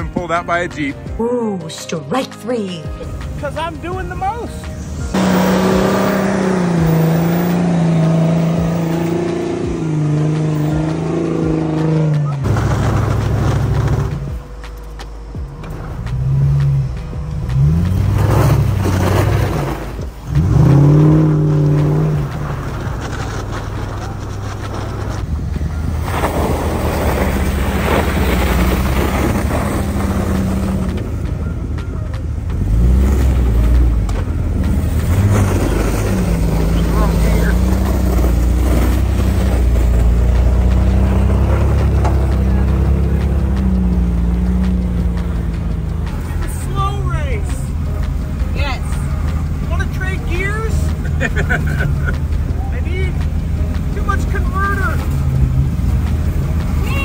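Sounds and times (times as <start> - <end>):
car engine running under load: 3.0 - 57.0.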